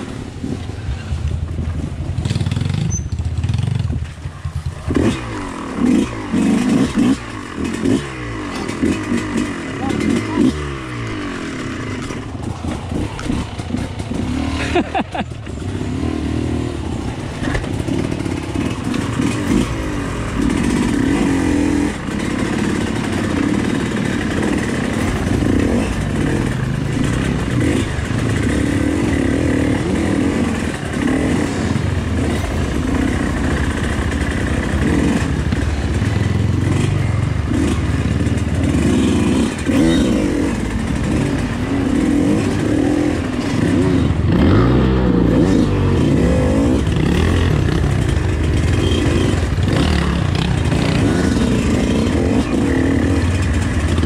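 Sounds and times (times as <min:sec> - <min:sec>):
dirt bike engine revving: 0:02.1 - 0:54.0.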